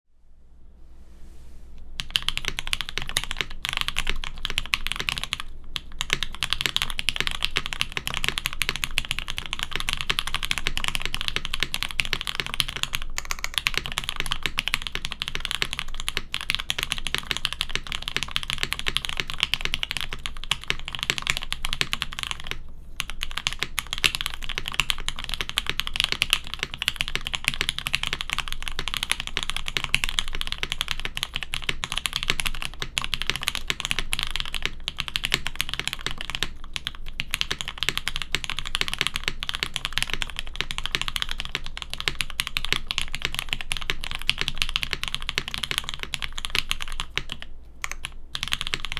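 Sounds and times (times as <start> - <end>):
mechanical keyboard typing: 2.0 - 48.9.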